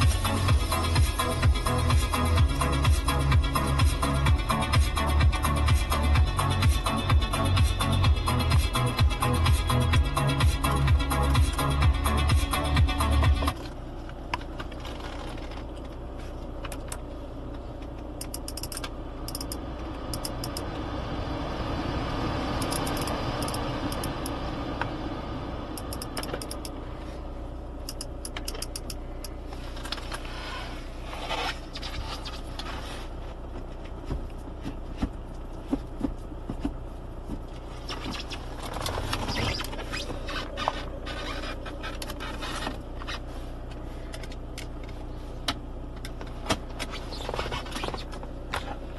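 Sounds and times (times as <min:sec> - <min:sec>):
low hum in a car: 0:00.0 - 0:48.9.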